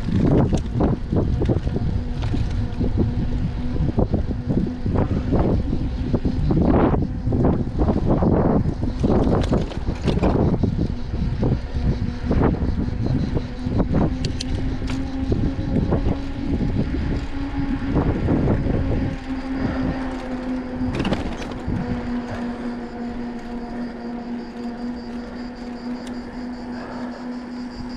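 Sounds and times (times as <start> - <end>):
bicycle tyre rumble: 0.0 - 27.9
steady low hum: 0.0 - 27.9
wind buffeting microphone: 0.0 - 27.9.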